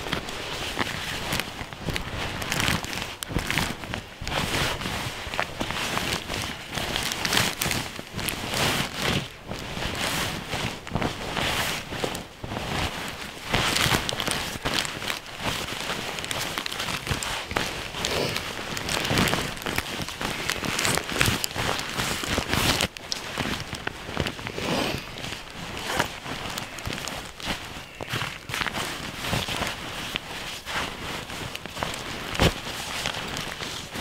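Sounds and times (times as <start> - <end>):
nylon fabric rustling: 0.0 - 34.0.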